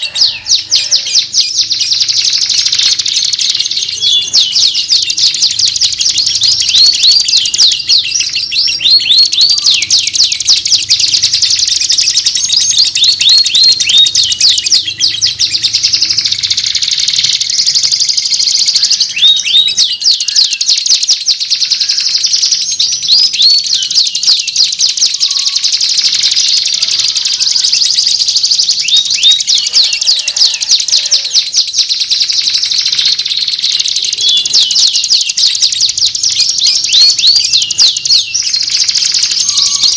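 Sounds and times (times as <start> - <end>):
bird song chirps and trills: 0.0 - 39.9.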